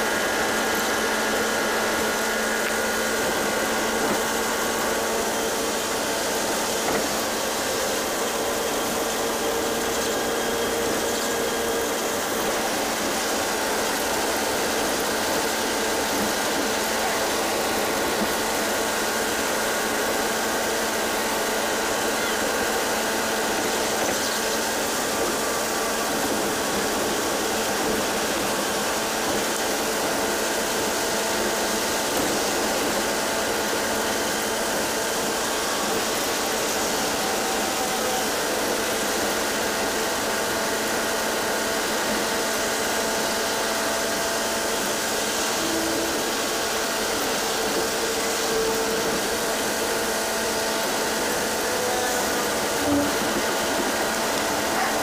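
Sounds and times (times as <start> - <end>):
bus engine drone: 0.0 - 39.4, 43.1 - 55.0.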